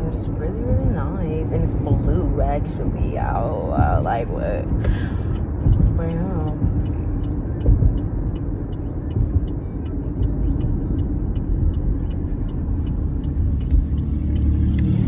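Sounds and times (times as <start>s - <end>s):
engine and road rumble: 0.0s - 15.0s
faint regular ticking: 0.0s - 15.0s.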